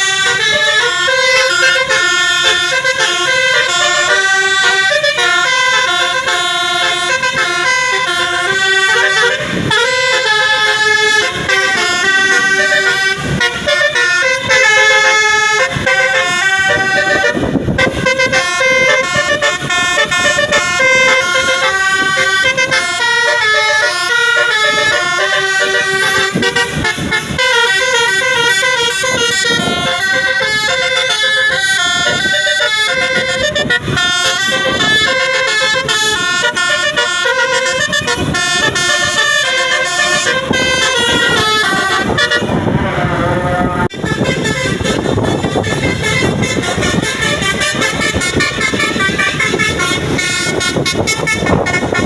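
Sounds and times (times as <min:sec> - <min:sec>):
multi-tone musical air horn: 0:00.0 - 0:52.0.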